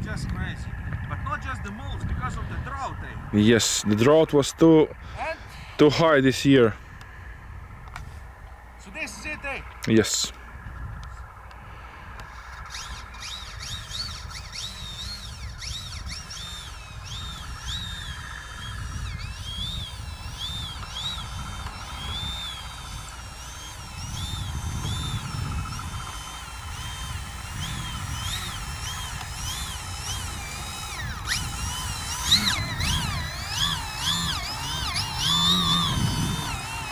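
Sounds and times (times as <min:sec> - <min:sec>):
electric motor and propeller whine: 0:00.0 - 0:36.9.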